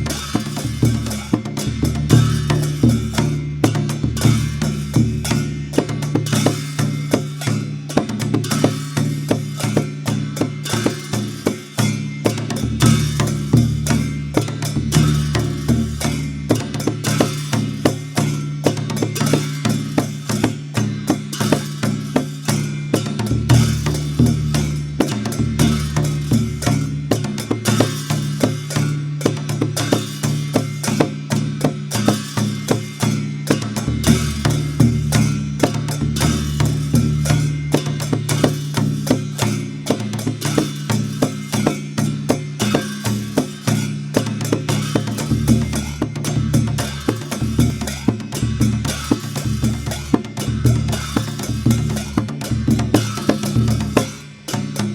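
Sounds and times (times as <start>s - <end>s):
barrel drum fast rhythm: 0.0s - 54.9s.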